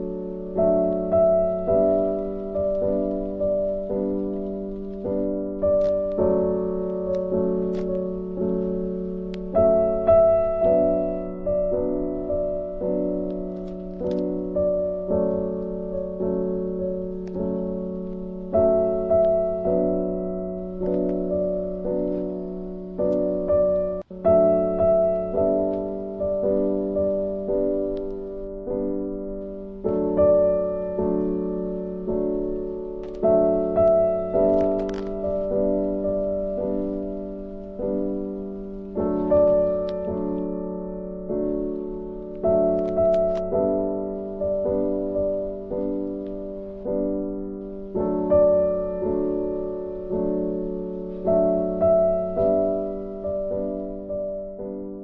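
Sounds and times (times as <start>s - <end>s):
slow piano chords: 0.0s - 55.0s.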